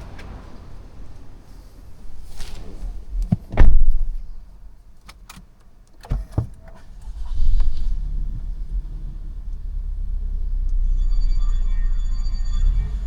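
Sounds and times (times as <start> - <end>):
car engine starting and rumbling: 0.0 - 13.0.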